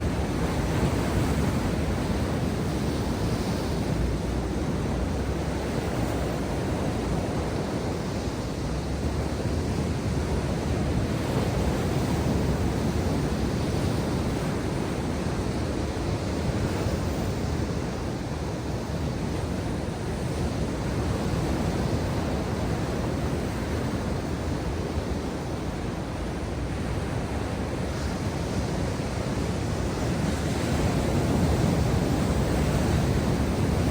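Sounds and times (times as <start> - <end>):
ocean waves breaking: 0.0 - 33.9
wind on microphone: 0.0 - 33.9.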